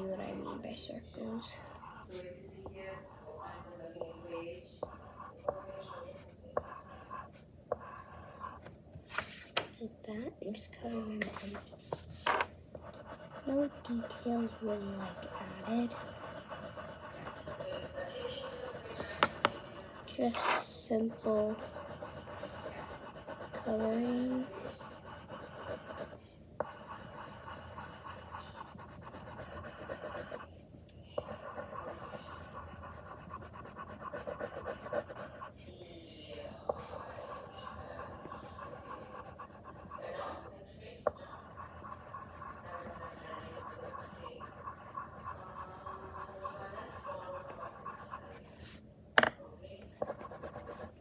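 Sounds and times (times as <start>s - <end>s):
pencil scratching on paper: 1.5s - 2.3s, 2.9s - 9.4s, 10.8s - 30.6s, 31.2s - 48.8s, 50.0s - 51.0s.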